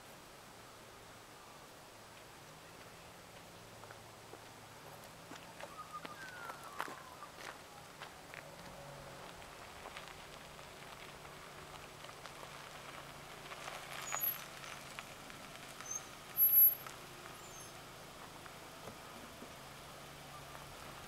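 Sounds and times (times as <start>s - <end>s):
car engine low hum: 0.0s - 21.0s
tyres crunching on gravel: 2.2s - 21.0s.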